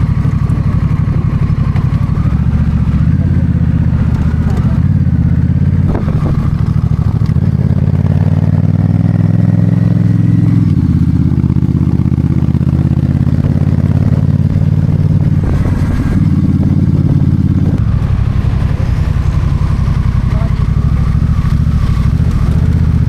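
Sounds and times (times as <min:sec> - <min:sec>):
vehicle engine running under load: 0:00.0 - 0:23.0.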